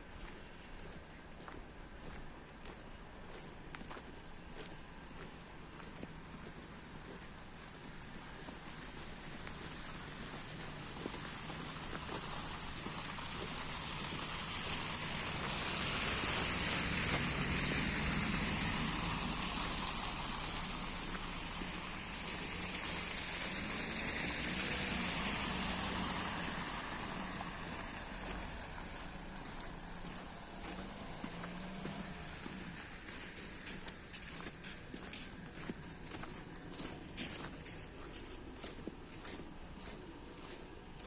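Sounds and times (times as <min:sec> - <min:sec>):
traffic passing on wet road: 0:00.0 - 0:41.0.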